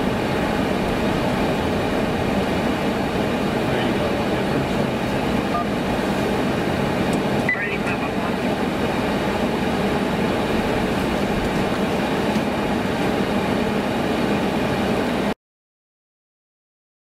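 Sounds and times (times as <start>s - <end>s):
vehicle engine and road noise: 0.0s - 15.4s.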